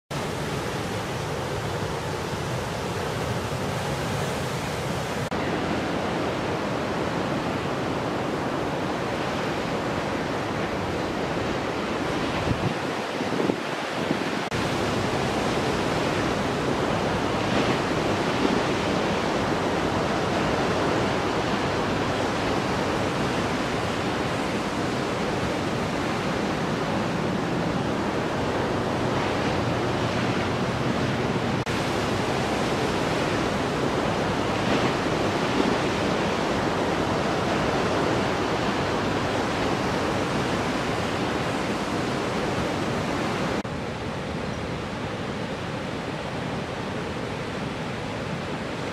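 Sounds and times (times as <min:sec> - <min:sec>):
ocean surf breaking: 0:00.1 - 0:48.9.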